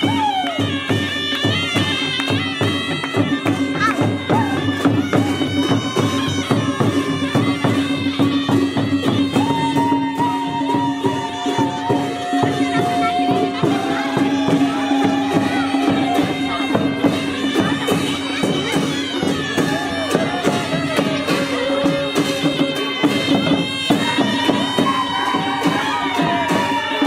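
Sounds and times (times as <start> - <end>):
cymbals: 0.0 - 27.0
hand drums beating fast: 0.0 - 27.0
shawms playing reedy melody: 0.0 - 27.0.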